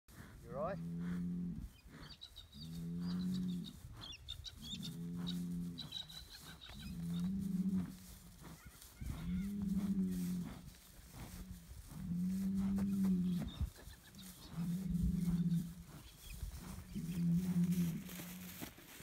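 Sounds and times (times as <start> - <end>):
bull bellowing: 0.6 - 18.5.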